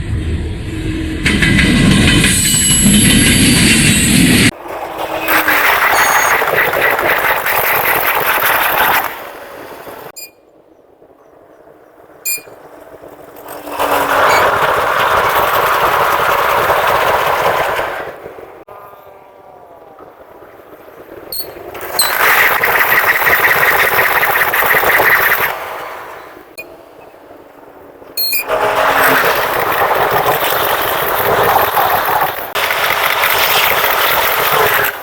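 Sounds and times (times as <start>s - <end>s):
train rushing past: 0.0s - 18.7s, 19.7s - 35.0s
wheels clattering over rails: 1.1s - 10.2s, 11.0s - 18.6s, 20.0s - 35.0s.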